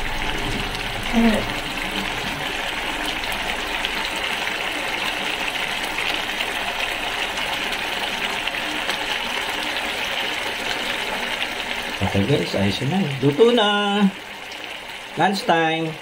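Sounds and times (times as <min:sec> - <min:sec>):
broth simmering in a pan: 0:00.0 - 0:16.0.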